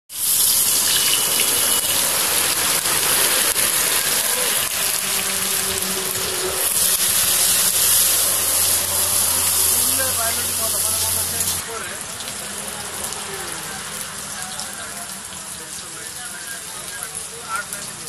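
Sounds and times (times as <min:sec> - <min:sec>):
onions sizzling in hot oil: 0:00.1 - 0:18.0.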